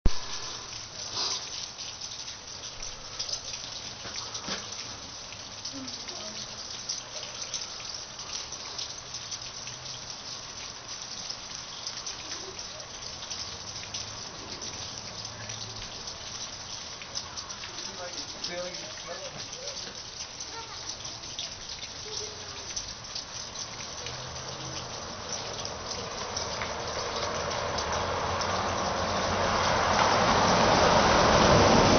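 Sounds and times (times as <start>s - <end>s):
patter of wet precipitation: 0.1s - 31.9s.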